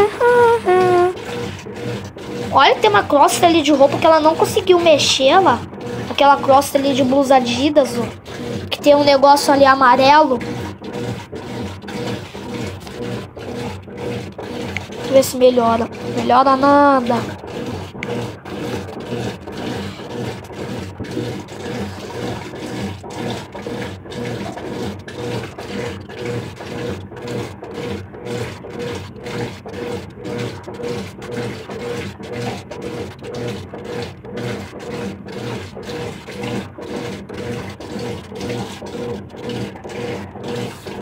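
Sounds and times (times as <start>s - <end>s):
washing machine agitating: 0.0s - 41.0s
water and clothes churning: 0.0s - 41.0s.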